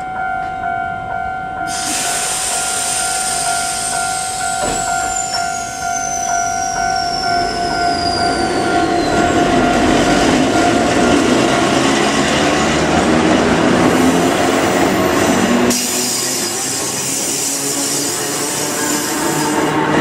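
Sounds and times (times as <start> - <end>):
steady high tone: 0.0 - 16.6
electric train rumbling: 0.0 - 20.0.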